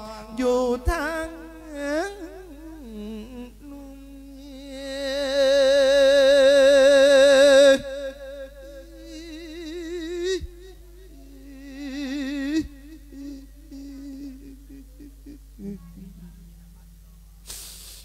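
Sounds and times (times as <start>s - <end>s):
man chanting into a microphone: 0.0s - 16.6s.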